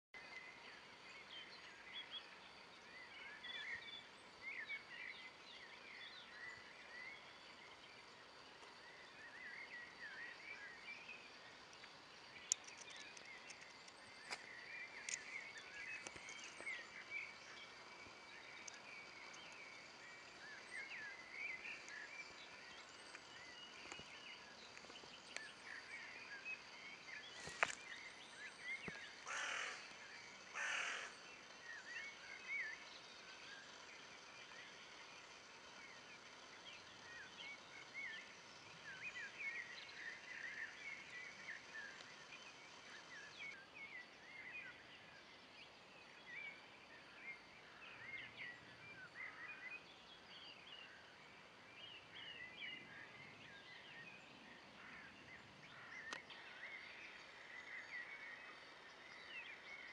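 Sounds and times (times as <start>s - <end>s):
small birds chirping: 0.2s - 59.9s.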